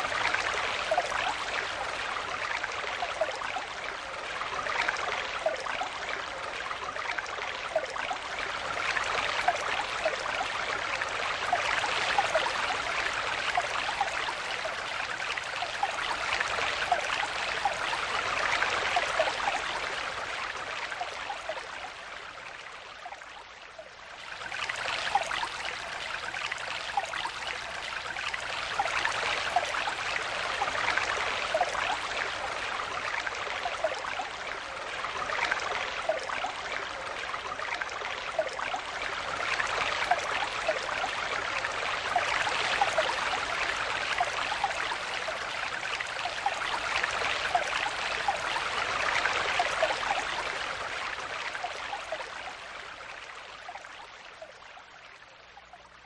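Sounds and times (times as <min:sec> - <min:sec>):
stream water flowing: 0:00.0 - 0:56.0
water gurgling: 0:00.0 - 0:56.0.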